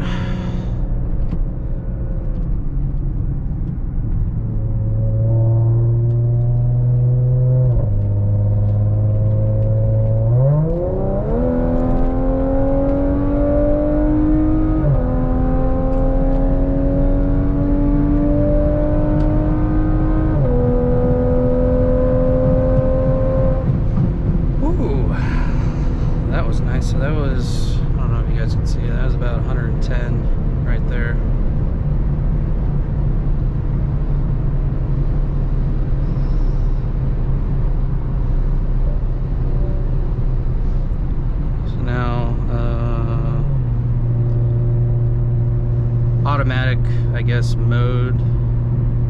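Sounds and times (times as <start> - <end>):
car engine accelerating hard: 0.0 - 49.0.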